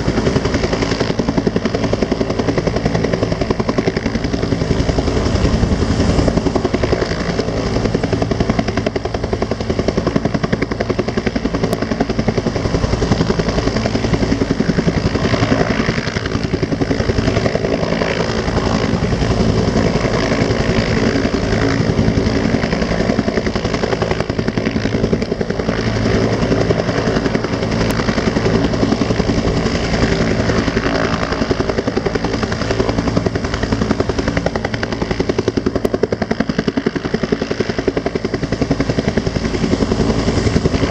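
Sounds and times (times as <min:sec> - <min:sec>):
helicopter rotor beating: 0:00.0 - 0:40.9.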